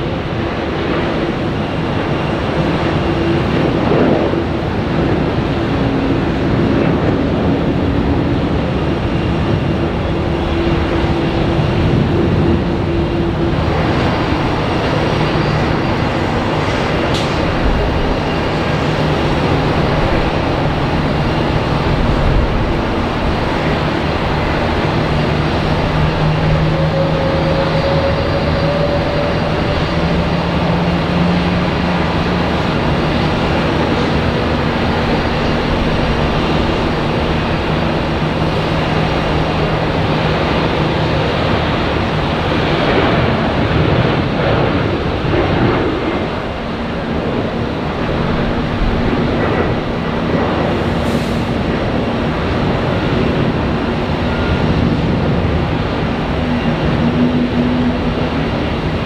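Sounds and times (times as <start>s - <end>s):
faint engine whine: 0.0s - 59.0s
jet engines droning: 0.0s - 59.0s.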